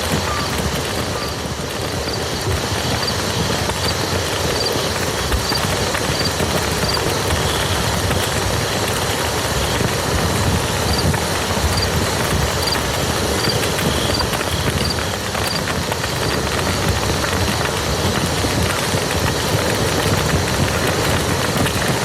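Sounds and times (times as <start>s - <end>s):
rain falling on field: 0.0s - 22.0s.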